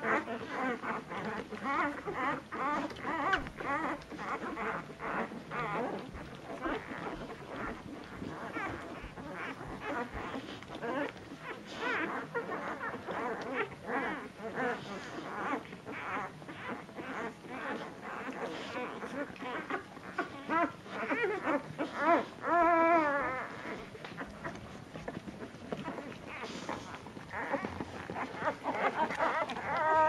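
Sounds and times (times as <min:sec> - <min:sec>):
puppies squeaking and whimpering: 0:00.0 - 0:30.0.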